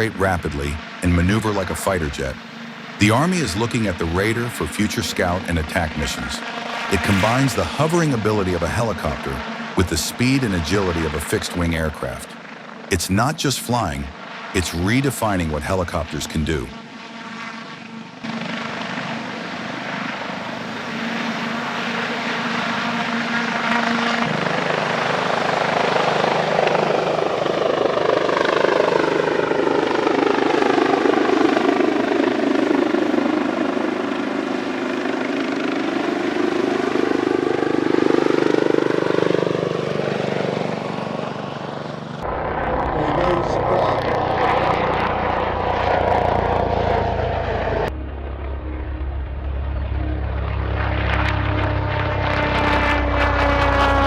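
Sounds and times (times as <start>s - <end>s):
helicopter flying past: 0.0s - 54.0s.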